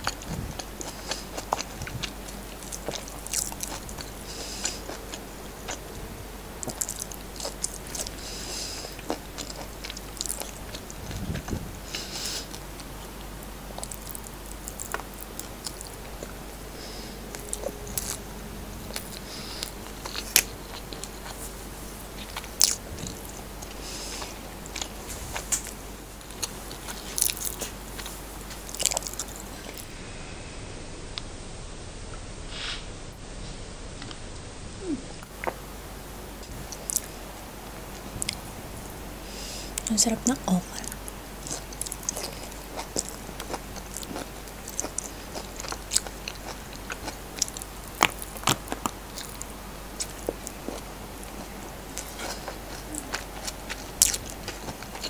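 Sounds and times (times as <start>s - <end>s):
person chewing food: 0.0s - 29.9s, 35.2s - 35.6s, 36.4s - 55.0s.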